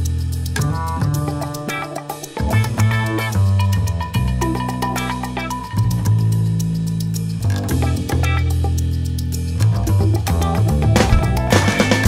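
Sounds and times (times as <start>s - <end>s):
rock music with bass and drums: 0.0s - 12.0s.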